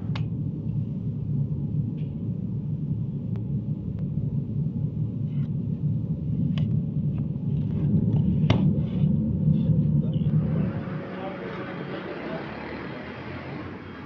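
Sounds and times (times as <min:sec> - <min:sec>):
low machine rumble: 0:00.0 - 0:14.0.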